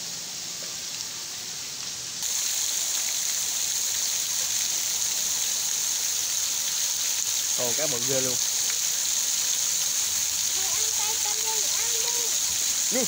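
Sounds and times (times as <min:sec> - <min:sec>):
pond water splashing and churning: 0:00.0 - 0:13.0.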